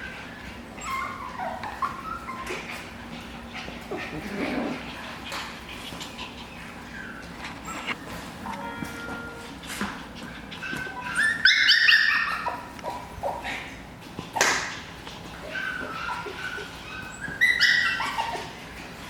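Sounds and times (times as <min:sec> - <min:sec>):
puppies yipping and whimpering: 0:00.0 - 0:08.6, 0:09.2 - 0:19.0.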